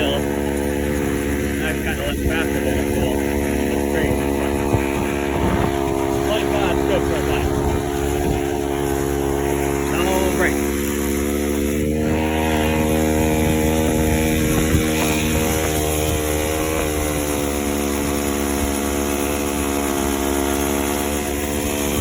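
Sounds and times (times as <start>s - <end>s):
two-stroke engine at high revs: 0.0s - 22.0s.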